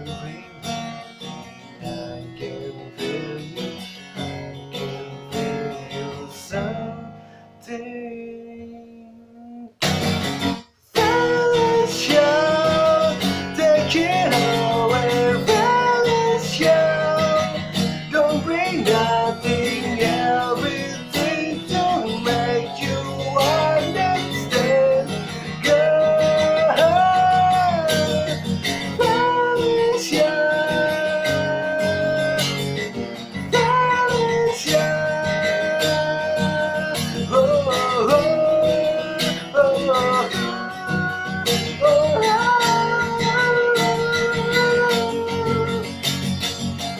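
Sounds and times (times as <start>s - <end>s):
man singing: 0.0s - 9.8s, 10.9s - 46.9s
strummed acoustic guitar: 0.0s - 46.9s.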